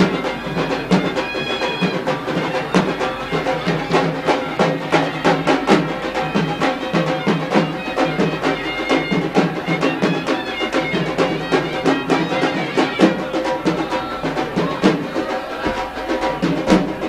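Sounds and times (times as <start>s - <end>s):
hand drum strokes: 0.0s - 17.0s.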